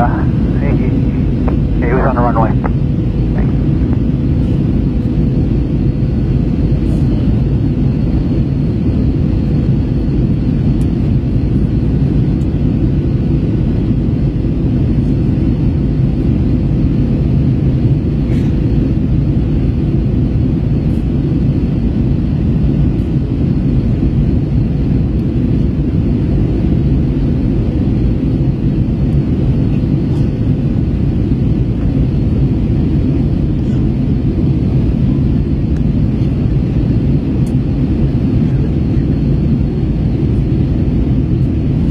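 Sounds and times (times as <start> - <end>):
airliner cabin drone: 0.0 - 41.9.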